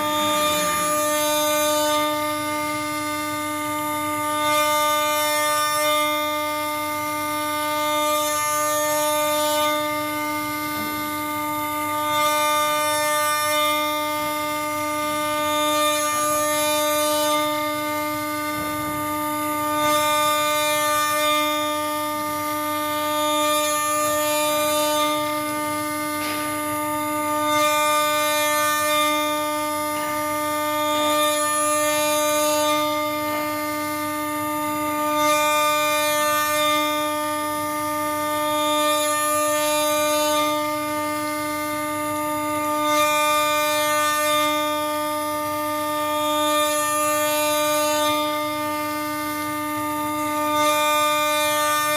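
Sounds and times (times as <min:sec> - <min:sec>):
engraving machine spindle whine: 0:00.0 - 0:51.9.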